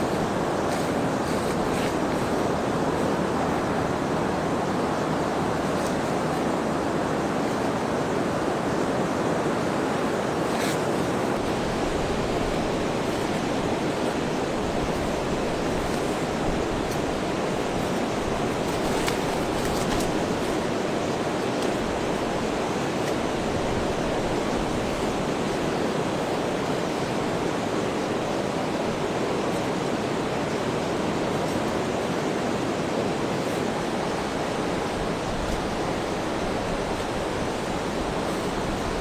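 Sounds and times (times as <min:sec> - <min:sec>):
heavy rain rushing hiss: 0:00.0 - 0:39.0.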